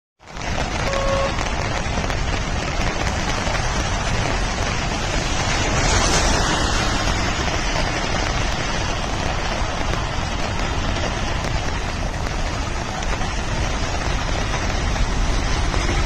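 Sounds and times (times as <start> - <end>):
rushing water from heavy rain: 0.2 - 16.0.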